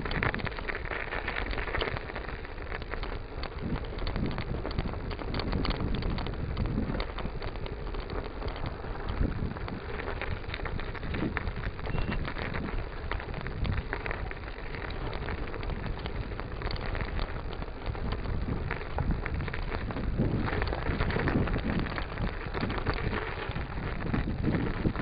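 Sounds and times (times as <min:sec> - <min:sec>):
bicycle tyres crunching through snow: 0:00.0 - 0:25.0
small clicks and rattles: 0:00.0 - 0:25.0.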